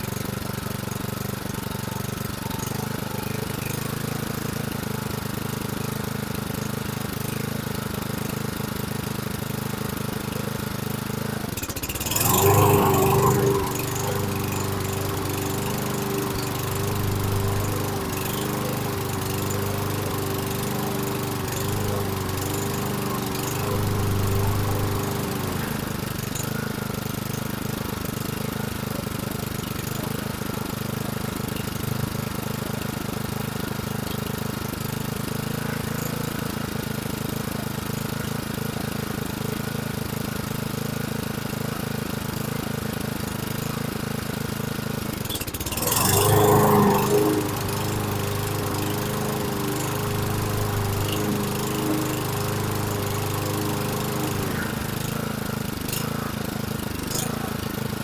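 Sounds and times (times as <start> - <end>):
lawn mower engine idling unevenly: 0.0 - 58.0.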